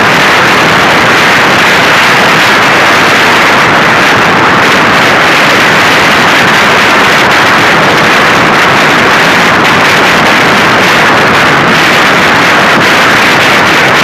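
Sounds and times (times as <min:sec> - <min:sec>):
motorcycle road and engine noise: 0:00.0 - 0:14.0
wind buffeting microphone: 0:00.0 - 0:14.0.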